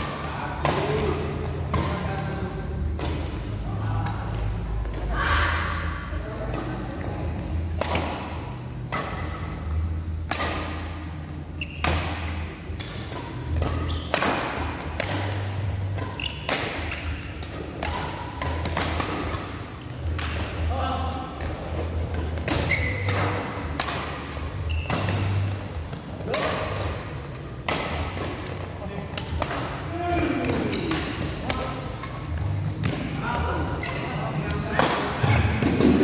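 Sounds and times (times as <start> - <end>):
rackets hitting shuttlecock: 0.0 - 5.0, 6.4 - 36.0.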